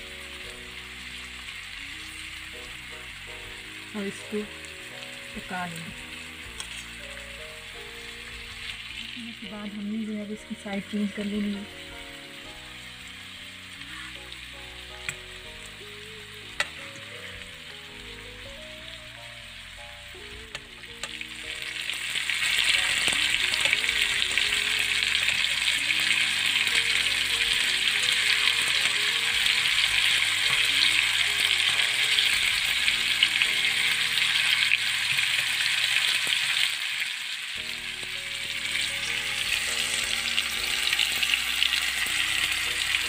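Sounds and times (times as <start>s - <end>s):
chicken sizzling in oil: 0.0s - 43.0s.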